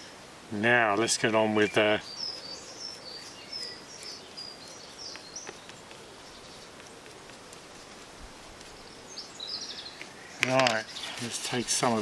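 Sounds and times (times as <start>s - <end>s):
faint steady hiss: 0.0s - 12.0s
small birds chirping: 0.6s - 12.0s.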